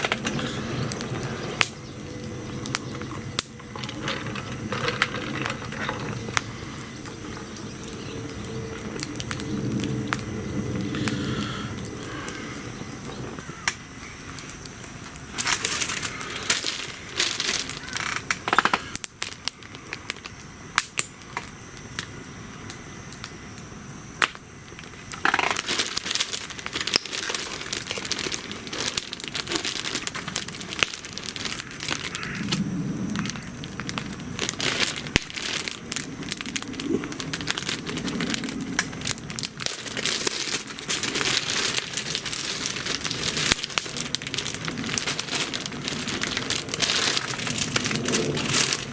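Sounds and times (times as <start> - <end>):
bonfire crackling and popping: 0.0 - 48.9
fire hissing: 0.0 - 48.9.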